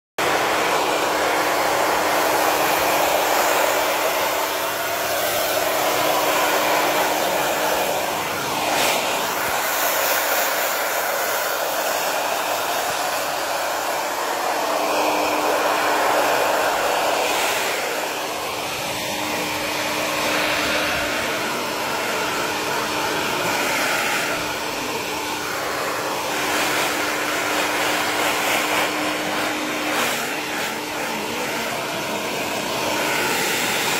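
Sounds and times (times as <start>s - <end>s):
blow dryer running: 0.2s - 33.9s.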